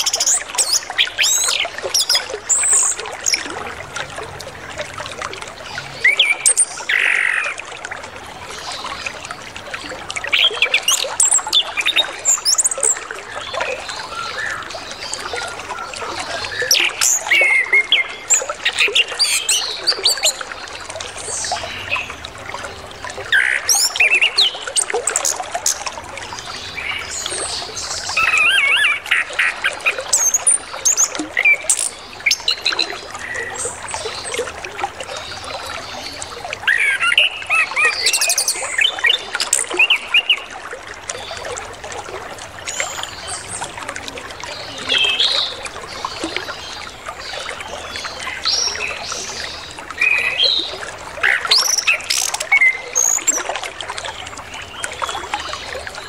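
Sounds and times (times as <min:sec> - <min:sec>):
flowing water: 0:00.0 - 0:56.0.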